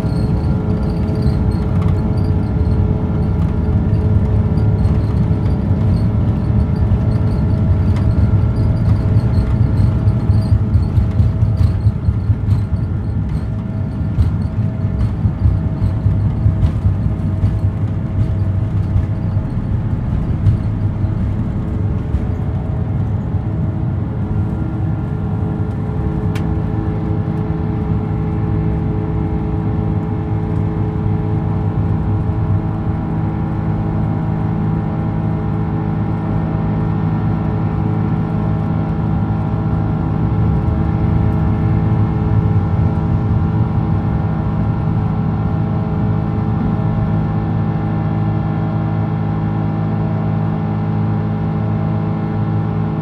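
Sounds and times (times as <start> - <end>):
jet engine drone in cabin: 0.0 - 53.0
steady engine tones: 0.0 - 53.0.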